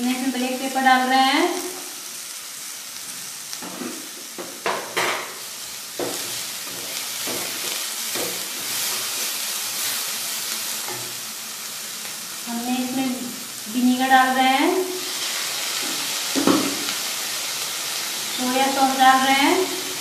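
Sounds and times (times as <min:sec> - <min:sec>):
vegetables sizzling in pan: 0:00.0 - 0:20.0.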